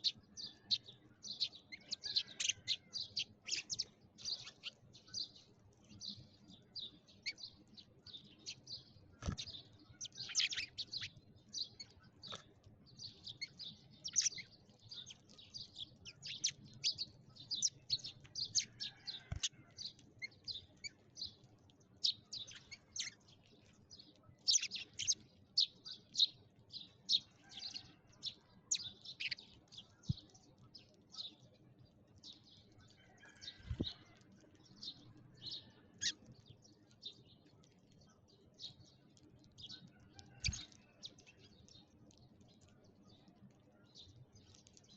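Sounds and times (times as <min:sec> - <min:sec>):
sparrows chirping: 0:00.0 - 0:44.9.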